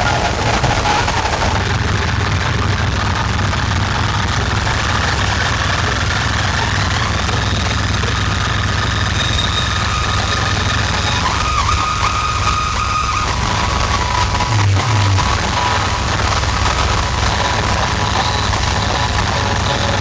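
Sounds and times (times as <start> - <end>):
deep bass drone: 0.0 - 20.0.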